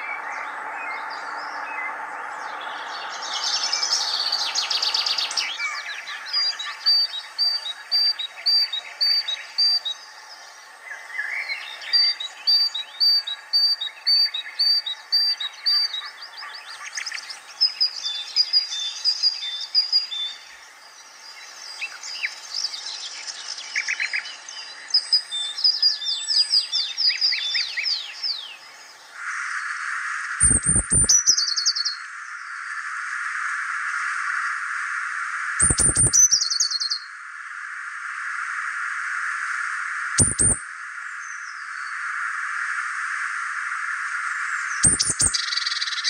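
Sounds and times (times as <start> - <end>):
birds chirping: 0.0 - 32.8, 35.6 - 37.1, 40.2 - 42.0, 44.5 - 46.0.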